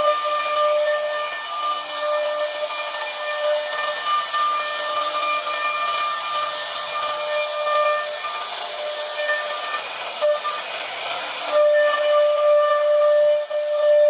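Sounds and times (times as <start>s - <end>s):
hiss of cutting: 0.0s - 14.0s
router spindle whine: 0.0s - 14.0s.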